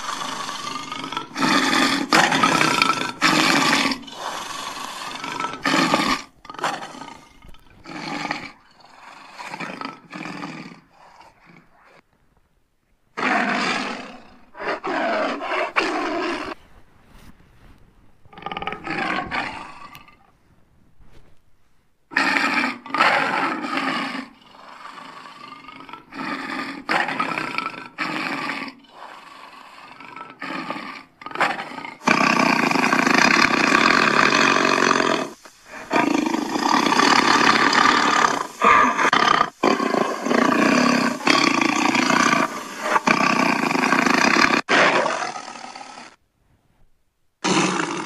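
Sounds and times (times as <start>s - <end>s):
leopard growling: 0.0s - 12.0s, 13.2s - 16.6s, 18.3s - 20.3s, 22.1s - 46.2s, 47.4s - 48.0s
leopard roaring: 0.0s - 12.0s, 13.2s - 16.6s, 18.3s - 20.3s, 22.1s - 46.2s, 47.4s - 48.0s.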